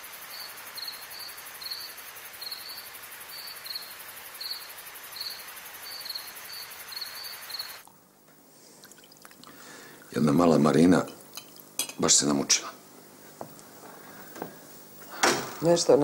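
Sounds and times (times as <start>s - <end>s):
background hiss: 0.0s - 16.0s
crickets chirping: 0.0s - 16.0s.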